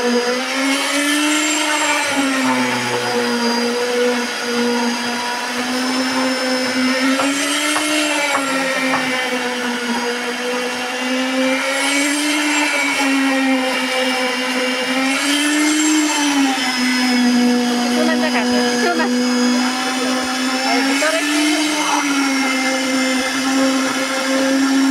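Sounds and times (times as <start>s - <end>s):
concrete vibrator whining: 0.2s - 24.9s.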